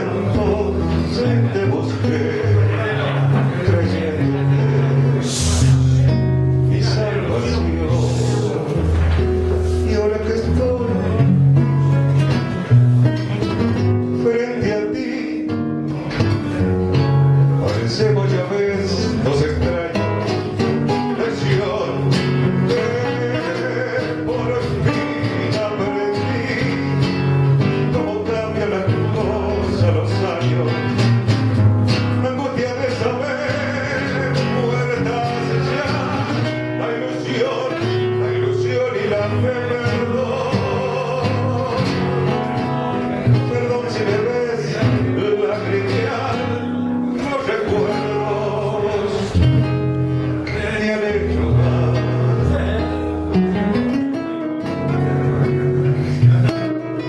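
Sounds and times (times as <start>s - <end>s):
fingerpicked classical guitar: 0.0s - 57.0s
man singing a tango: 0.0s - 57.0s.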